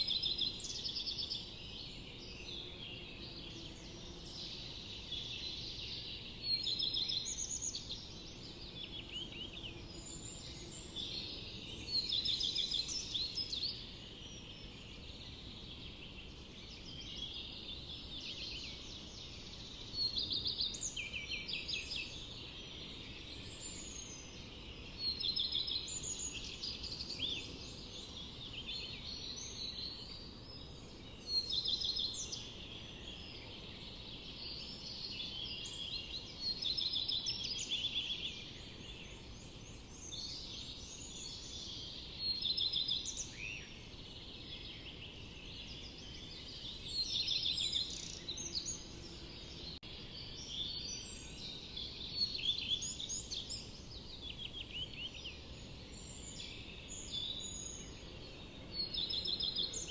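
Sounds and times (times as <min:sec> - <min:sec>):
faint low background noise: 0:00.0 - 0:59.9
songbirds chirping and trilling: 0:00.0 - 0:59.9.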